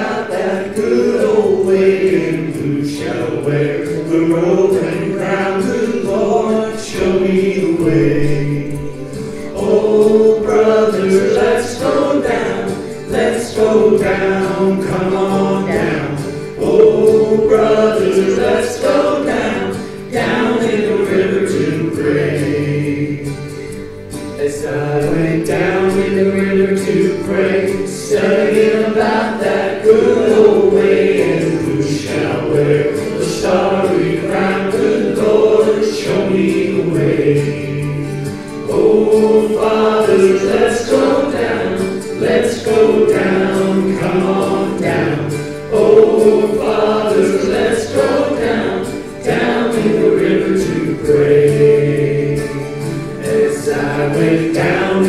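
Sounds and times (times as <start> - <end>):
group singing gospel in harmony: 0.0 - 55.0.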